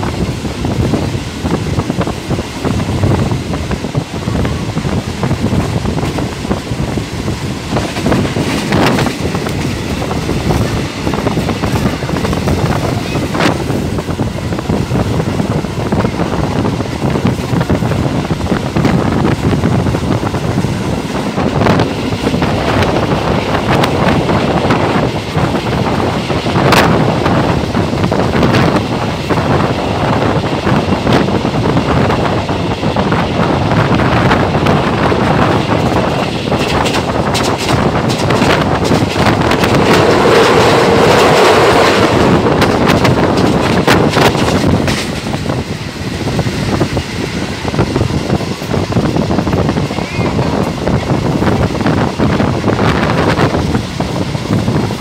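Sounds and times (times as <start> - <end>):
train rumbling on track: 0.0 - 55.0
wind rushing over microphone: 0.0 - 55.0.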